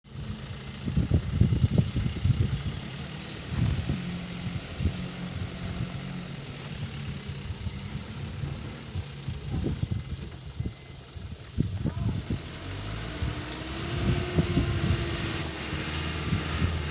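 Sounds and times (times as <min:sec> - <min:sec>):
diesel truck engine humming: 0:00.1 - 0:16.9.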